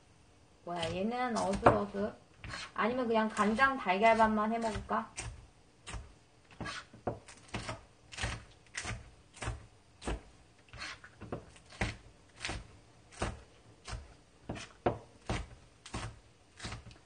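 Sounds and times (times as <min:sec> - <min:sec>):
knife chopping on cutting board: 0:00.8 - 0:17.0.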